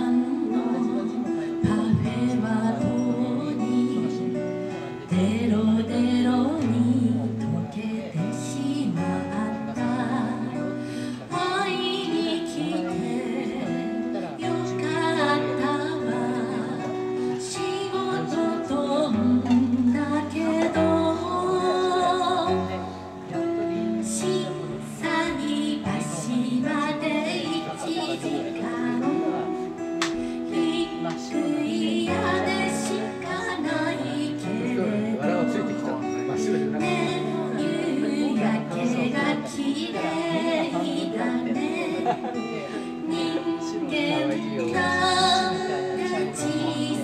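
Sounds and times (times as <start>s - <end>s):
strummed acoustic guitar: 0.0s - 47.0s
woman singing: 0.0s - 47.0s.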